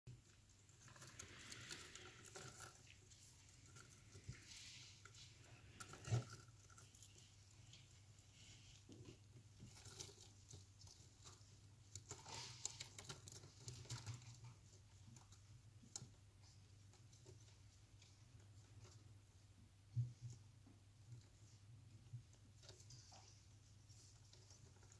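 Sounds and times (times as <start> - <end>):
faint scratches and clicks: 0.1 - 24.9.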